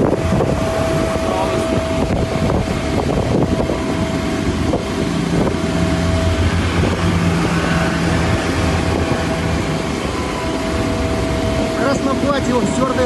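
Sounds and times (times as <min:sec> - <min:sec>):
engine rumble: 0:00.0 - 0:13.0
thin whine: 0:00.0 - 0:13.0
wind buffeting microphone: 0:00.0 - 0:13.0.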